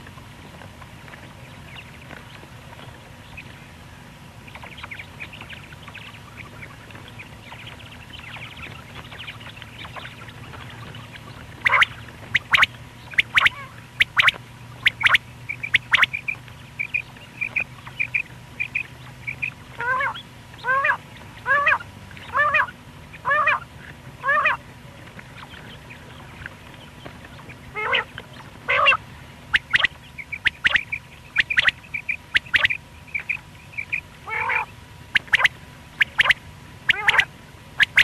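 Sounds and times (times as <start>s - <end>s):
low steady hum: 0.0s - 38.0s
quail calling: 4.5s - 24.7s, 27.0s - 38.0s.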